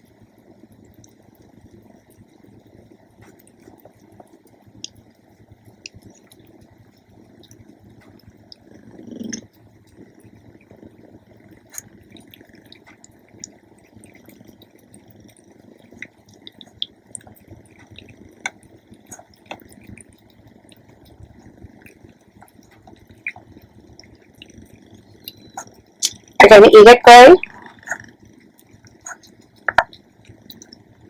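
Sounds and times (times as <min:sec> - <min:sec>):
small clicks and ticks: 0:00.0 - 0:26.4, 0:27.4 - 0:31.0
cat chewing and licking: 0:00.1 - 0:26.4, 0:27.5 - 0:31.0.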